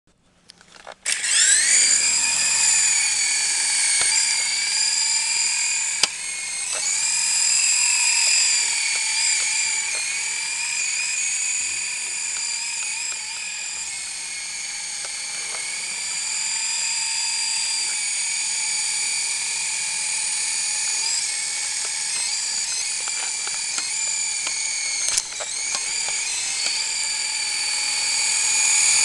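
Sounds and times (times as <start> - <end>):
toy helicopter rotor whine: 1.0 - 29.0.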